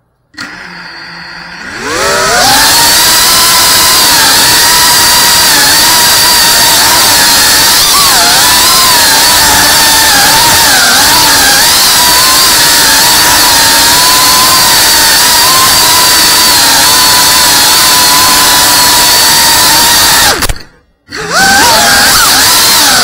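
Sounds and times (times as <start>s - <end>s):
drone motors whining: 0.4s - 23.0s.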